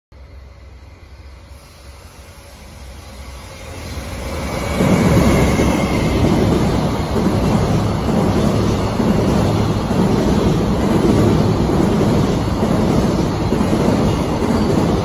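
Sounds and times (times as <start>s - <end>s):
freight train rumbling past: 0.2s - 15.0s.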